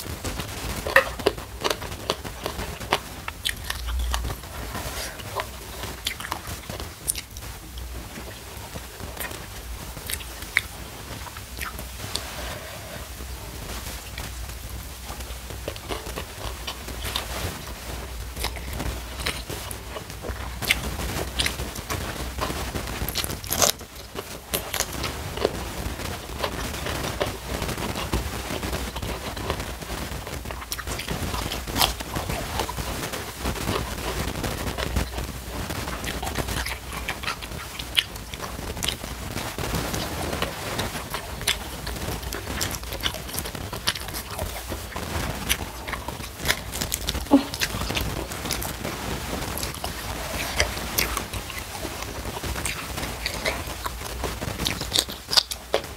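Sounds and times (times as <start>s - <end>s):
chewing and crunching: 0.0s - 55.9s
low steady hum: 0.0s - 55.9s.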